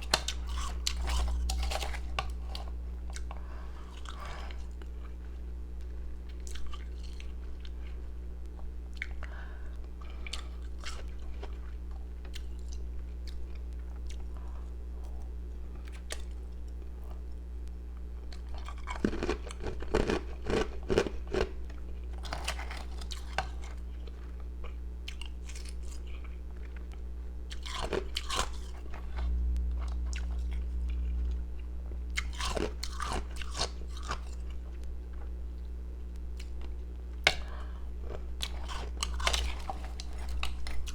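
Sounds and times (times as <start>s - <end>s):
ice being chewed: 0.0s - 9.4s, 10.0s - 17.4s, 18.2s - 35.7s, 36.4s - 40.9s
steady low hum: 0.0s - 40.9s.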